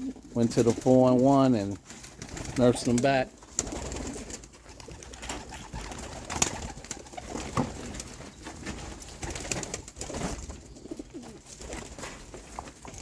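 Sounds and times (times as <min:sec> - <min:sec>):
pigeons cooing softly: 0:00.0 - 0:13.0.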